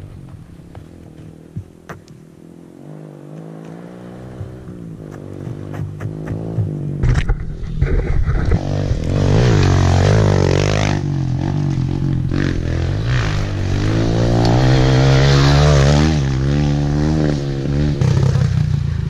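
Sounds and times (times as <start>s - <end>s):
motorcycle engine revving under load: 0.0s - 19.0s.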